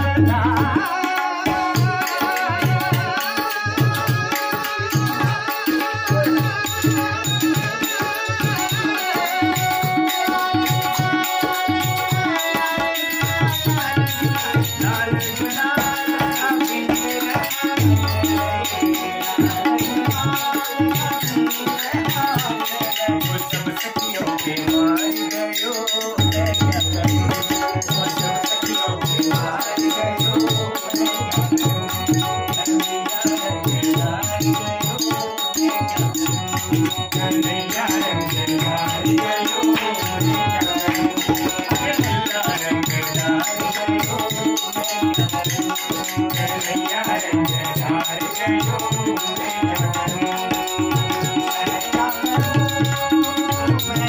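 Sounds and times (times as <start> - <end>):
hand percussion rhythm: 0.0 - 54.0
harmonium: 0.0 - 54.0
man singing: 0.0 - 54.0.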